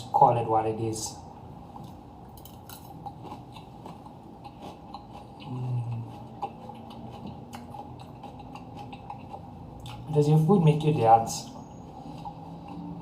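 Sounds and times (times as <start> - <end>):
person chewing: 1.7 - 11.0, 11.7 - 13.0.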